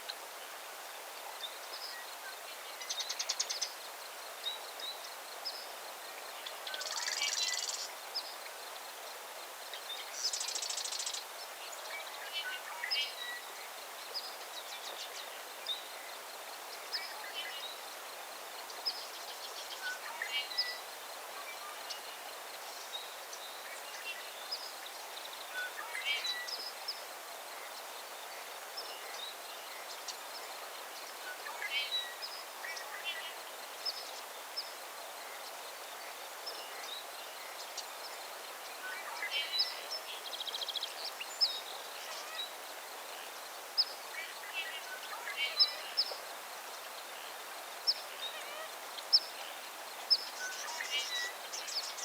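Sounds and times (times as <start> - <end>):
outdoor ambience hiss: 0.0 - 52.0
songbirds chirping and trilling: 1.0 - 52.0.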